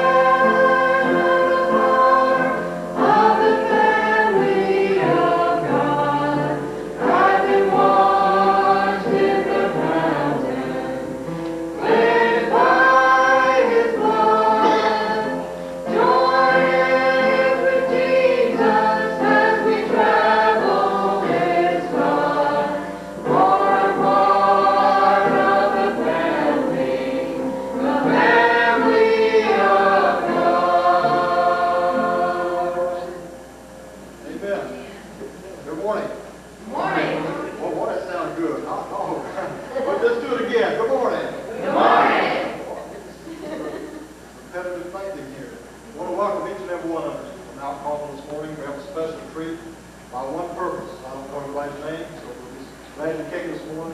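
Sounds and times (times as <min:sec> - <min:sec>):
church choir singing gospel: 0:00.0 - 0:53.9.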